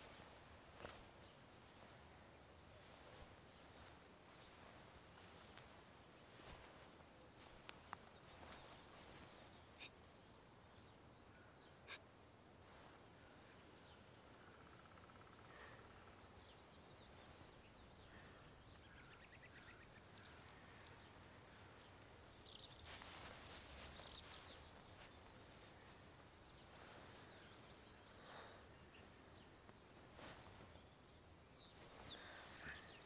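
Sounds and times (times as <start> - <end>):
soft bird chirps: 0.0 - 33.0.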